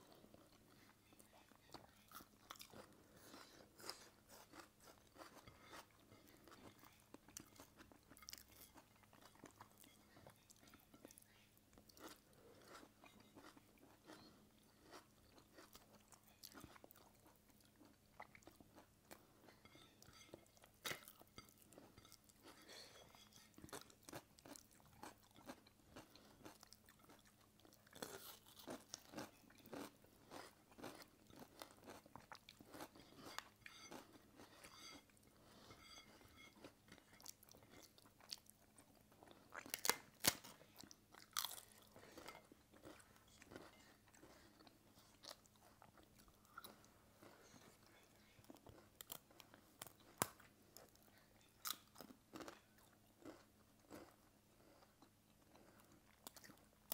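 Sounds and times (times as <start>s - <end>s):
people chewing and crunching: 0.0s - 56.9s.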